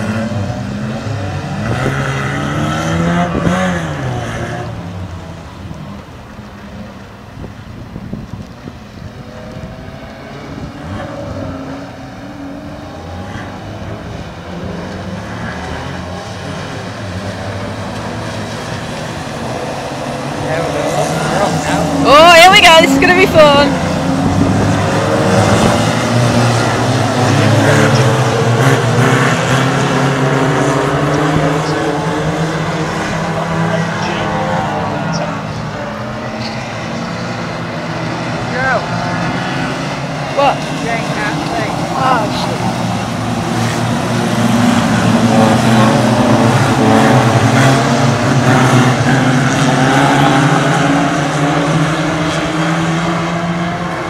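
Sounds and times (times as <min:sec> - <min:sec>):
racing car engines droning: 0:00.0 - 0:54.0.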